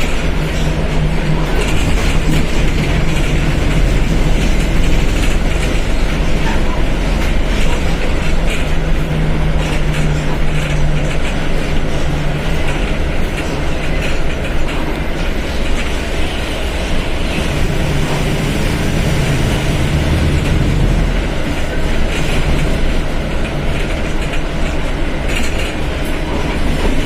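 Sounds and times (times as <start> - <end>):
diesel bus engine running: 0.0 - 27.0.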